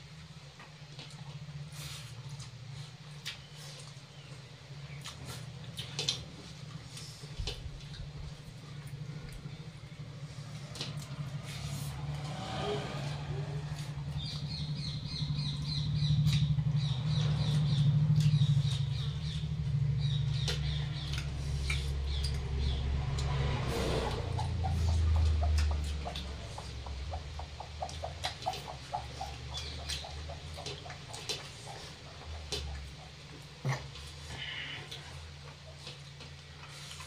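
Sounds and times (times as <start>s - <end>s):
low hum: 0.0s - 37.0s
chewing: 0.6s - 37.0s.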